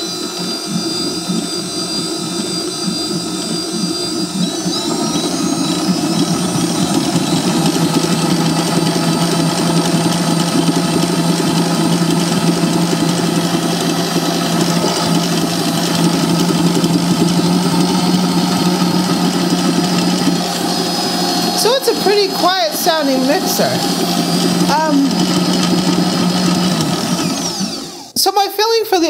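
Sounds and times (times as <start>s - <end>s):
stand mixer motor humming: 0.0s - 28.2s.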